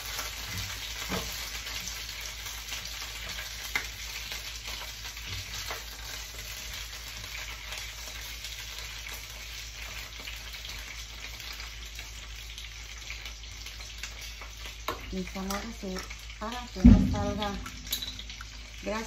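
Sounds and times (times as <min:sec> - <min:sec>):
chiles sizzling in oil: 0:00.0 - 0:19.0.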